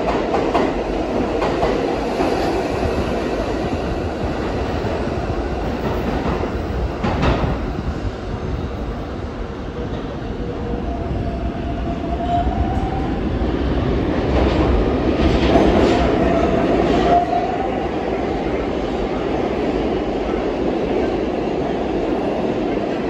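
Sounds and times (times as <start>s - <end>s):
subway train rumble: 0.0s - 23.0s.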